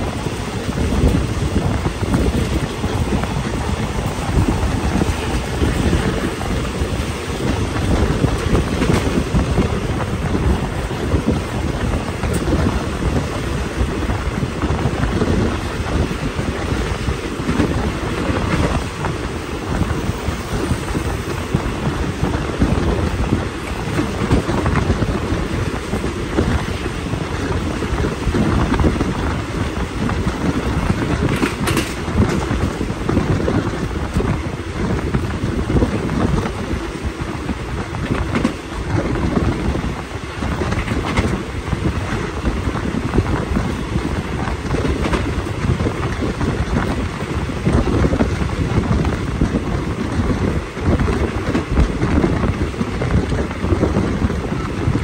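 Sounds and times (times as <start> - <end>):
train carriage rumbling on rails: 0.0 - 55.0
wind buffeting microphone: 0.0 - 55.0.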